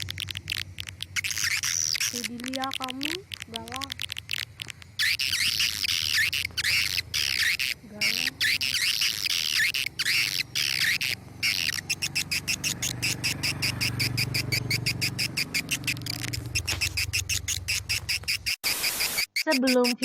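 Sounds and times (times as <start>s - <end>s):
small birds twittering: 0.0s - 20.0s.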